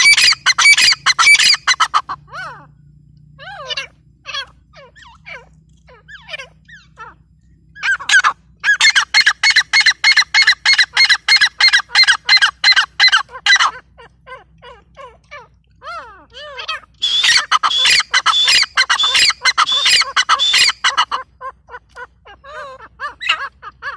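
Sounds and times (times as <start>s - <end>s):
francolins calling: 0.0s - 23.9s.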